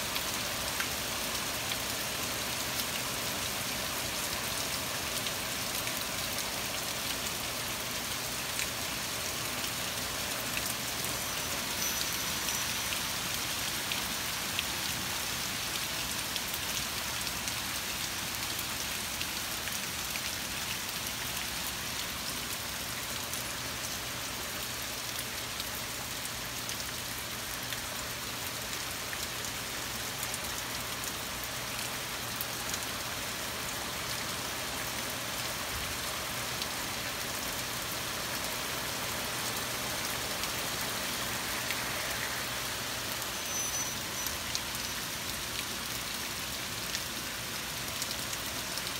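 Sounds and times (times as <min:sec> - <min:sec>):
torrential rain pattering: 0:00.0 - 0:48.9.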